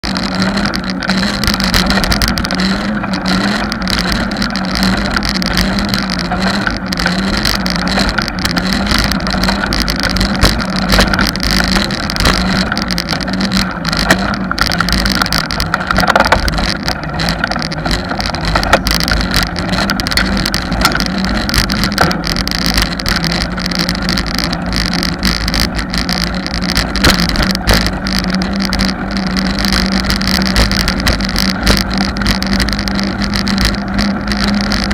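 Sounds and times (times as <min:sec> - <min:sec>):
bicycle tyre and wind noise: 0:00.0 - 0:34.9
low wavering hum: 0:00.0 - 0:34.9
small clicks and rattles: 0:00.0 - 0:34.9.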